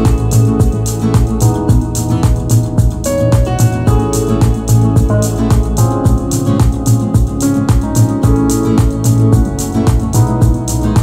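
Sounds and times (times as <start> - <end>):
music with beat and bass line: 0.0 - 11.0.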